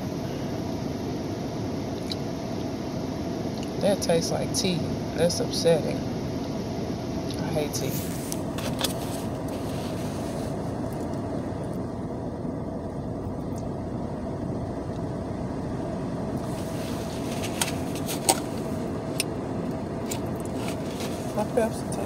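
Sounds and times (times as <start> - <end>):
car interior hum: 0.0 - 22.0.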